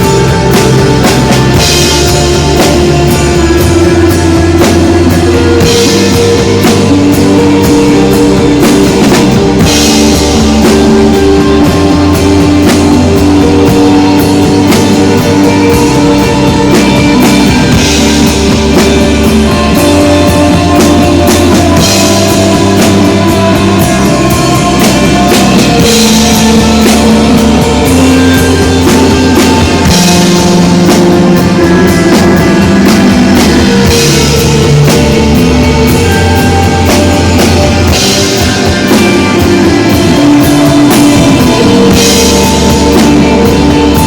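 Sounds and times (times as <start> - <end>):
bass guitar: 0.0 - 44.0
drum kit: 0.0 - 44.0
sustained electric guitar notes: 0.0 - 44.0.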